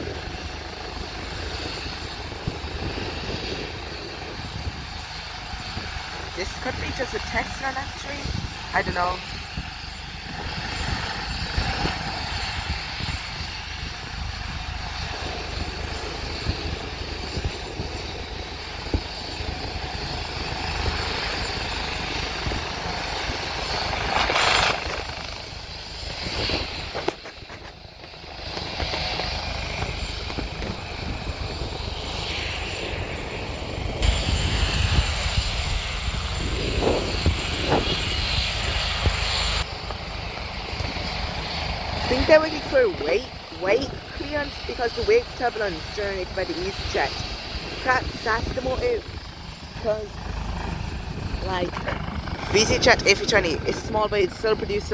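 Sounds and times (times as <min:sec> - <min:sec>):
helicopter turbine and rotors: 0:00.0 - 0:54.9.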